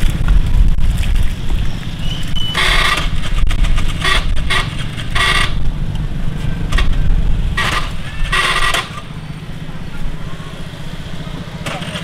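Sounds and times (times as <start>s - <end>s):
motorbike traffic rumble: 0.0s - 12.0s.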